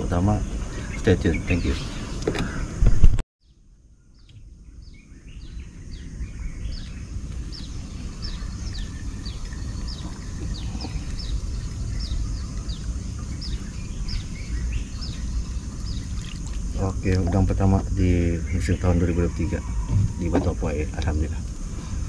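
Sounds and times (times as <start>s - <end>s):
bird chirping: 0.0s - 2.8s, 3.4s - 22.0s
low outdoor rumble: 3.8s - 22.0s.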